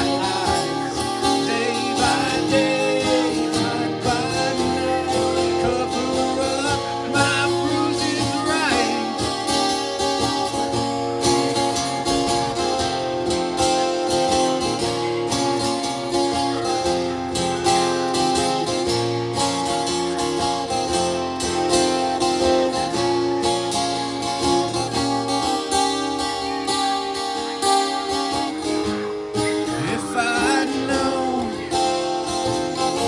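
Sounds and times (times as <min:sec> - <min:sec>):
instrumental rock music: 0:00.0 - 0:33.0.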